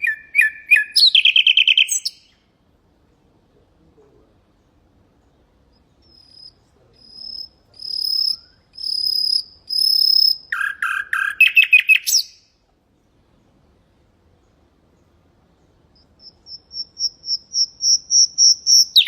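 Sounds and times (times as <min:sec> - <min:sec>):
nightingale singing: 0:00.0 - 0:03.3, 0:04.5 - 0:19.0.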